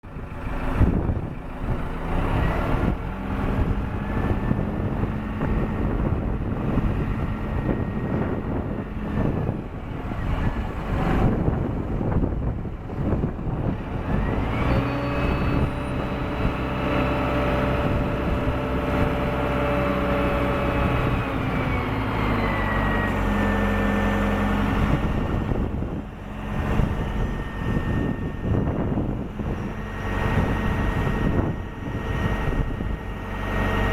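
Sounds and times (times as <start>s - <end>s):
diesel engine running under load: 0.0s - 33.9s.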